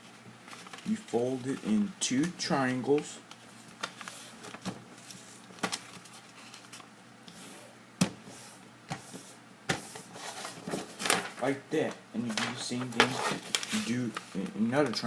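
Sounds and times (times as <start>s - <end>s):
paper rustling: 0.4s - 7.6s, 8.3s - 11.6s, 12.2s - 15.0s.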